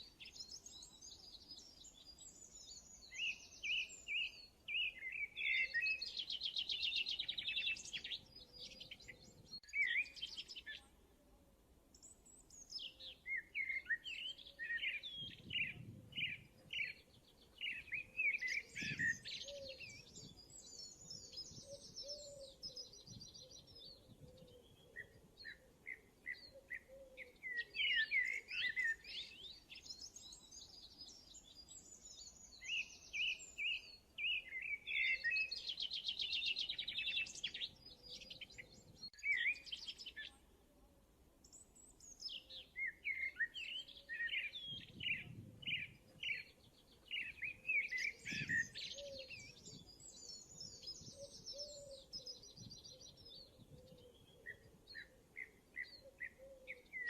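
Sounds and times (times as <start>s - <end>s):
birds chirping and singing: 0.0s - 10.9s, 11.9s - 40.4s, 41.5s - 57.0s.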